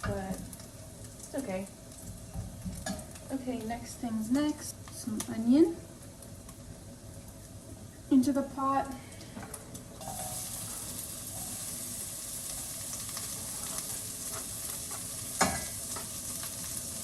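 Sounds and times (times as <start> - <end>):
onion sizzling in hot oil: 0.0 - 9.0, 9.7 - 17.0.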